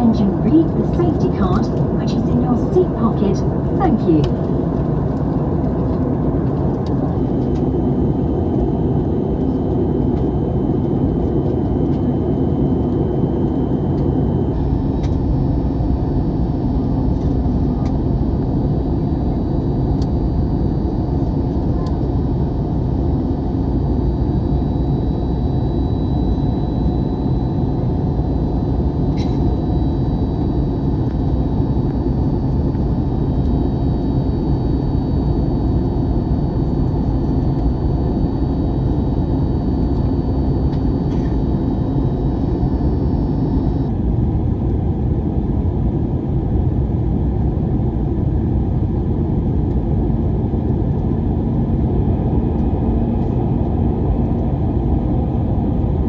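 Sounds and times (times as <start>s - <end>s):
aircraft cabin engine roar: 0.0s - 56.0s
faint hum: 0.0s - 56.0s.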